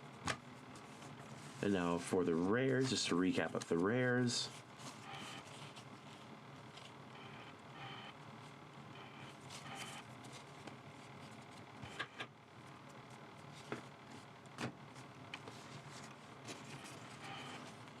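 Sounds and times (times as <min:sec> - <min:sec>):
faint room hum: 0:00.0 - 0:18.0.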